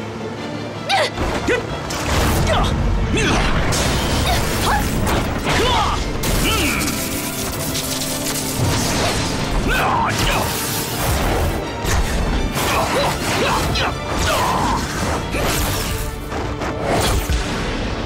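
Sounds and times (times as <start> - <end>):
action music: 0.0 - 18.0.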